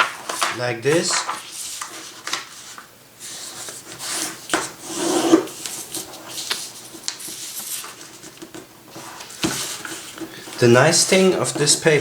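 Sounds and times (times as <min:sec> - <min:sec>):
paper crackles: 0:00.0 - 0:04.7, 0:05.5 - 0:12.0
paper rustling and creasing: 0:00.0 - 0:12.0.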